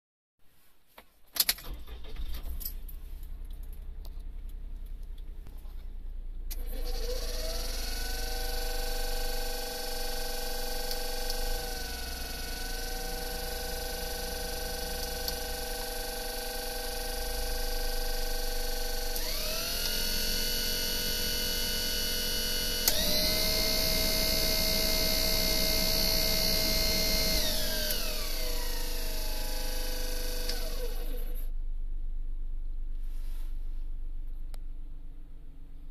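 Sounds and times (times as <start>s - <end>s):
engine whine: 1.8s - 33.0s.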